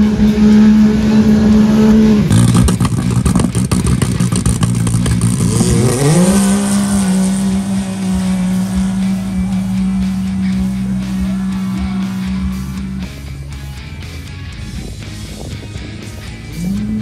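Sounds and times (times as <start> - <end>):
engines revving high: 0.0 - 13.8, 14.6 - 17.0.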